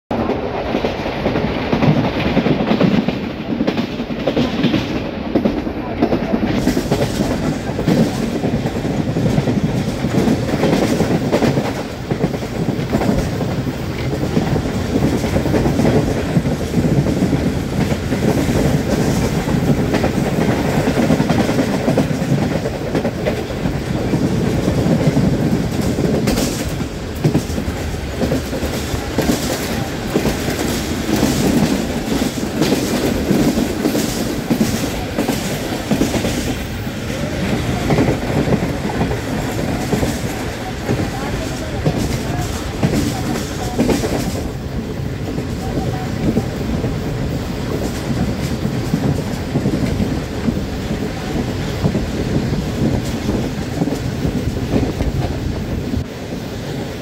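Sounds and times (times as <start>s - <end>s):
train wheels rumbling and clacking: 0.1s - 57.0s.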